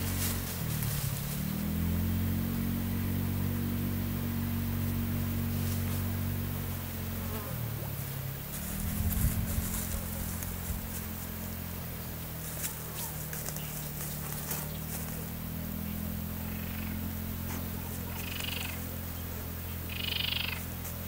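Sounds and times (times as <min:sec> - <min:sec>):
low droning buzz: 0:00.0 - 0:21.0.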